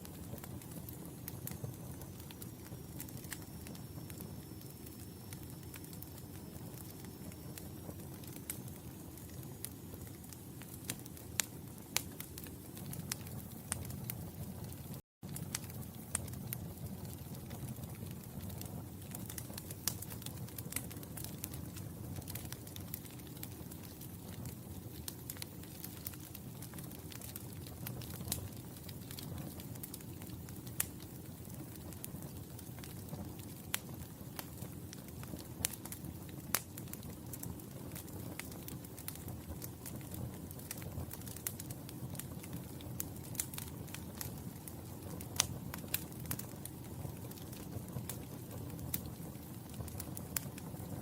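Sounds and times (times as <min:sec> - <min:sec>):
low rumble of flame: 0:00.0 - 0:51.0
wood fire crackling: 0:00.0 - 0:51.0.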